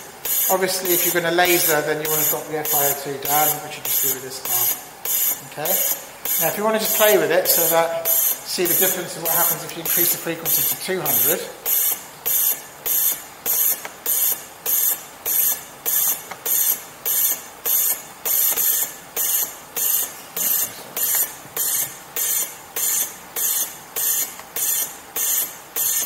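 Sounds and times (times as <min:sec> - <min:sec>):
ventilator jets hissing: 0:00.0 - 0:23.4.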